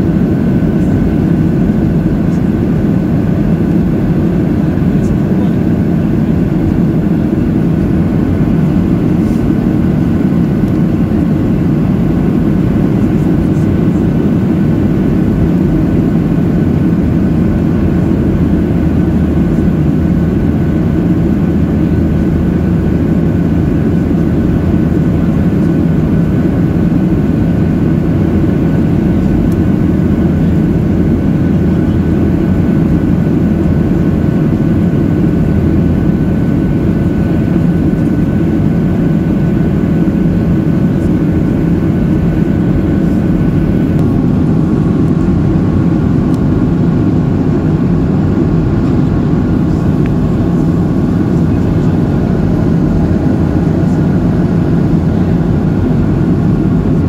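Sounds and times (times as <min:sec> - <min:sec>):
airplane cabin drone: 0:00.0 - 0:57.0
faint high whine: 0:00.0 - 0:57.0.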